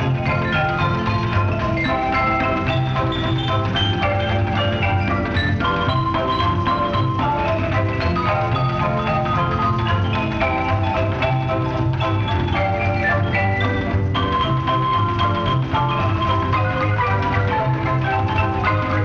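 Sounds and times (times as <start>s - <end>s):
marimba runs: 0.0s - 19.0s
plucked double bass: 0.0s - 19.0s.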